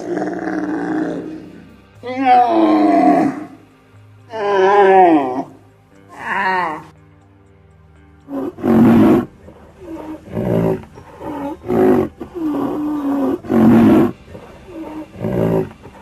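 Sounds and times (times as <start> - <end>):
animal deep roaring grunts: 0.0 - 3.6, 4.3 - 6.9, 8.3 - 16.0.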